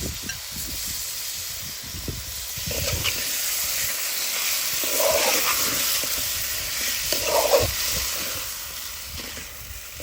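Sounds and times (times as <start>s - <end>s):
meat sizzling in a pot: 0.0s - 10.0s.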